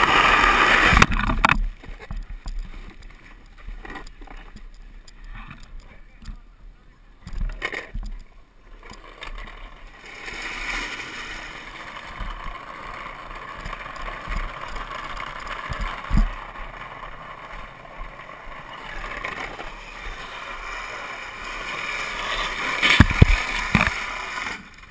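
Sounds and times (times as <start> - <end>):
cart wheels rolling on wet asphalt: 0.0 - 5.0, 8.8 - 24.9.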